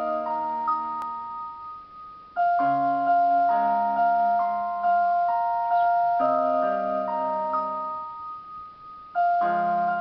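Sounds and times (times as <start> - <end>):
keyboard playing chords and melody: 0.0 - 10.0.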